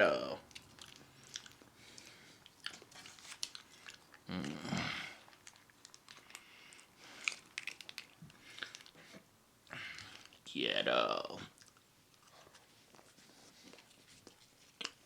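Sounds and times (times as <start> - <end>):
person chewing: 0.4 - 10.4, 11.4 - 15.0.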